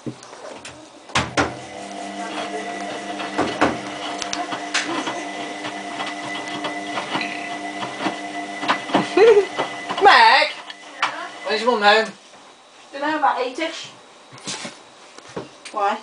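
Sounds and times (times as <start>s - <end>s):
washing machine motor hum and whine: 0.0s - 16.0s.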